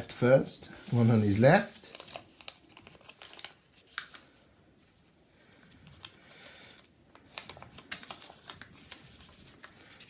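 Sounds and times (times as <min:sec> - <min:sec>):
paper rustling on a tabletop: 0:00.8 - 0:10.0.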